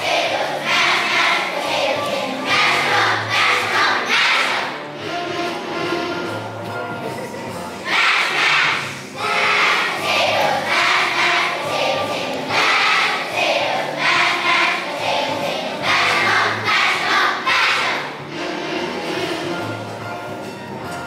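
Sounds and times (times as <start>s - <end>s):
children's choir singing: 0.0s - 20.4s.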